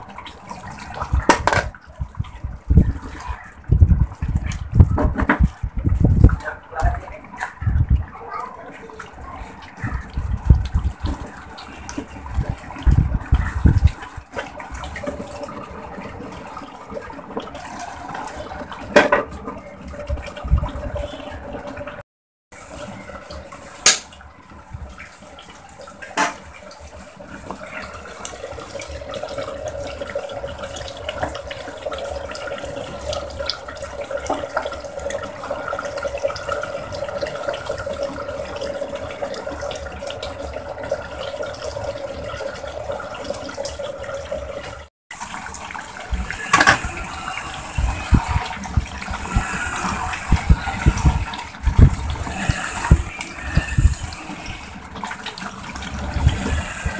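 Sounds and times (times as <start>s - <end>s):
pot bubbling and hissing: 0.0s - 56.9s.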